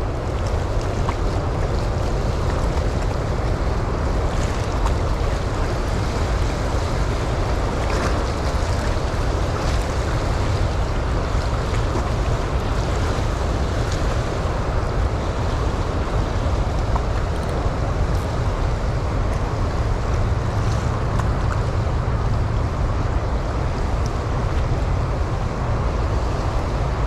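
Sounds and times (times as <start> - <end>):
water rushing through flood gates: 0.0 - 27.0
wind buffeting microphone: 0.0 - 27.0.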